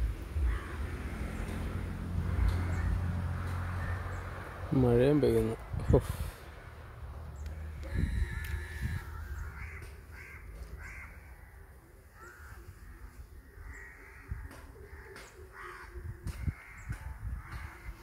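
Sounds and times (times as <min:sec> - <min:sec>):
crows cawing: 0:00.4 - 0:04.6, 0:07.6 - 0:18.0.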